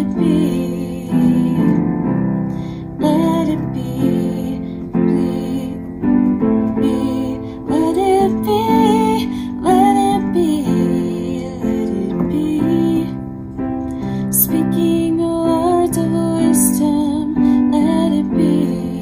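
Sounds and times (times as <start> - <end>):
woman singing: 0.0 - 13.3, 14.0 - 19.0
piano chords: 0.0 - 19.0.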